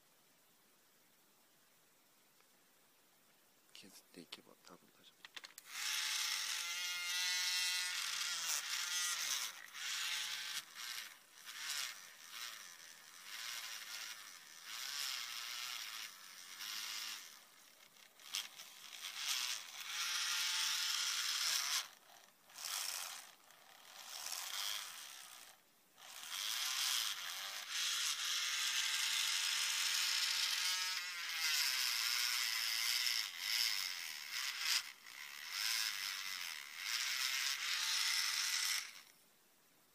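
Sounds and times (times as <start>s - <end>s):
electric motor tool whirring: 5.2s - 39.2s.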